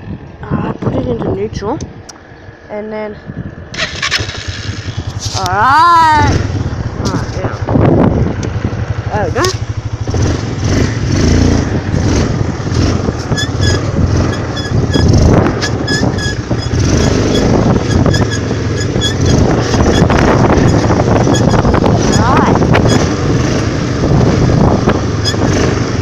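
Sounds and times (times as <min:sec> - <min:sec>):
quad engine running loudly: 0:03.8 - 0:26.0.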